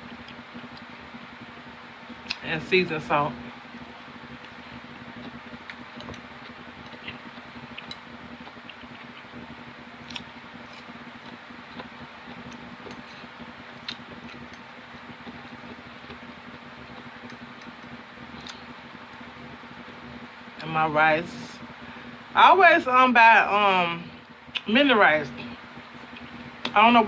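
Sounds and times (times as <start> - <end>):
low room hum and hiss: 0.0 - 27.0.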